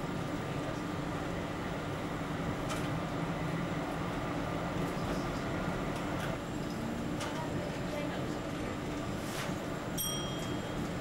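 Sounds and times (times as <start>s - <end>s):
tram running along track: 0.0s - 11.0s.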